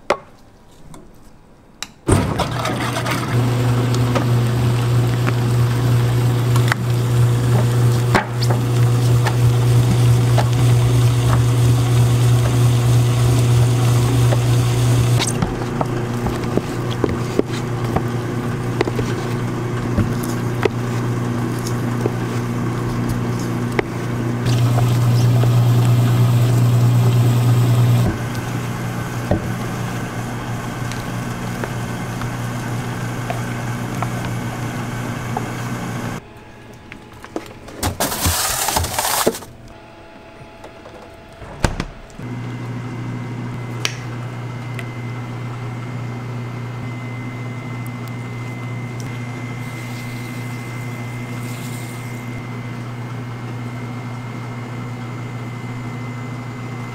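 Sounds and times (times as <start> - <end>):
freezer machine humming: 2.1 - 56.9.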